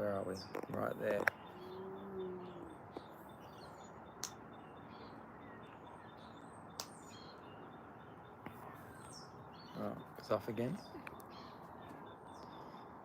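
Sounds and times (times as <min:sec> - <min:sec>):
faint bird chirps: 0:00.0 - 0:13.0
outdoor background hiss: 0:00.0 - 0:13.0.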